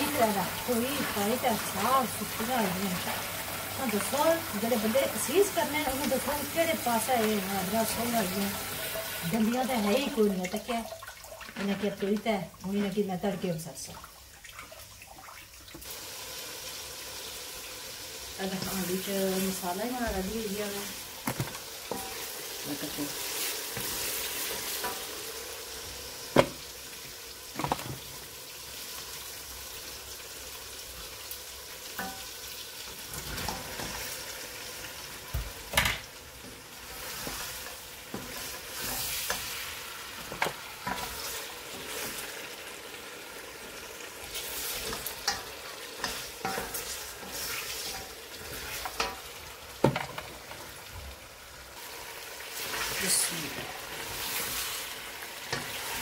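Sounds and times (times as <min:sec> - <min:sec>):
chicken feet sizzling in a pot: 0:00.0 - 0:15.0, 0:15.8 - 0:56.0.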